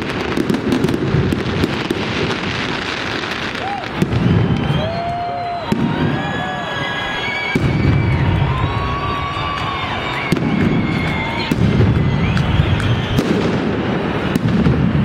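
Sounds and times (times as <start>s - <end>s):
fireworks high whistles: 0.0s - 15.0s
fireworks rumble of bangs: 0.0s - 15.0s
fireworks sharp cracks: 0.0s - 15.0s.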